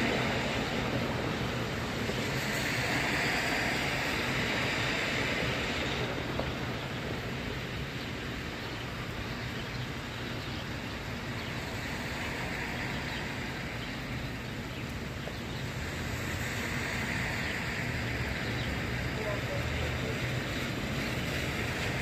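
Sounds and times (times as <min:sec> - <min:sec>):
car tyres on wet street: 0:00.0 - 0:22.0
rain hiss: 0:00.0 - 0:22.0.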